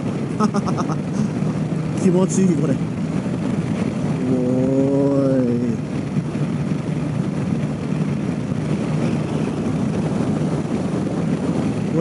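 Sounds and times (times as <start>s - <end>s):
wind and road noise: 0.0s - 12.0s
motorcycle engine running: 1.4s - 12.0s.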